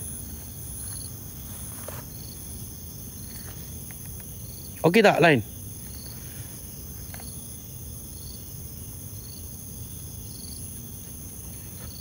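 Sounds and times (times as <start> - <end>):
crickets shrilling: 0.0 - 12.0.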